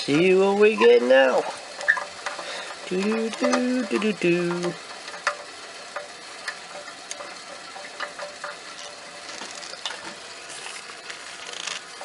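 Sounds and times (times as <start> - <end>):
faint crackly hiss: 0.8 - 12.0.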